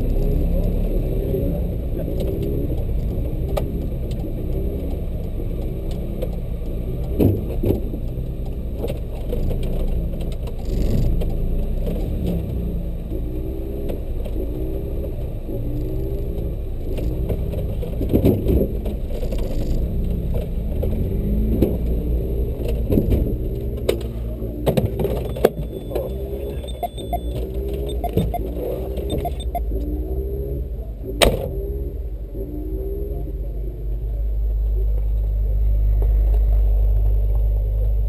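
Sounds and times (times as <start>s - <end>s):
car engine idling: 0.0s - 31.3s.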